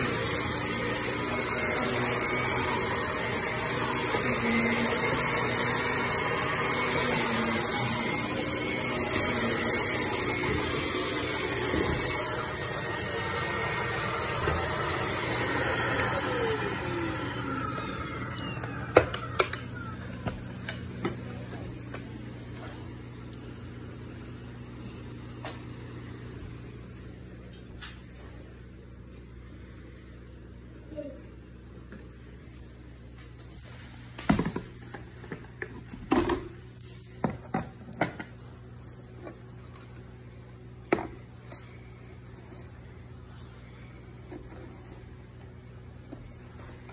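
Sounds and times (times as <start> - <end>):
vacuum cleaner motor whine: 0.0 - 30.8, 31.5 - 46.9.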